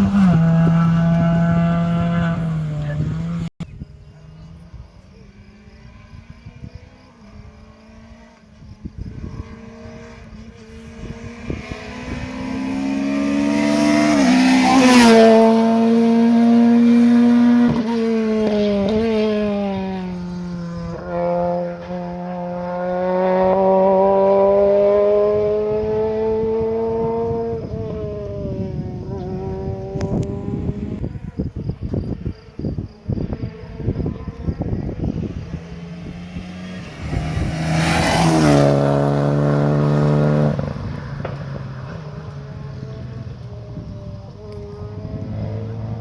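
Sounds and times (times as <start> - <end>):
rally car engine passing: 0.0 - 3.5, 4.1 - 46.0.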